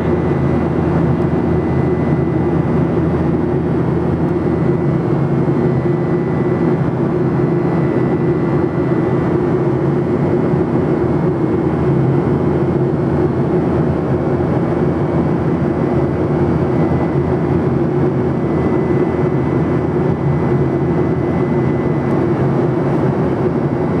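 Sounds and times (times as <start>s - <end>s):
aircraft cabin engine drone: 0.0s - 24.0s.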